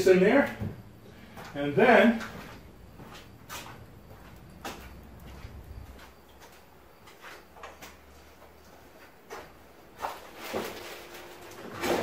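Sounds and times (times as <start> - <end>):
footsteps: 0.5 - 11.4.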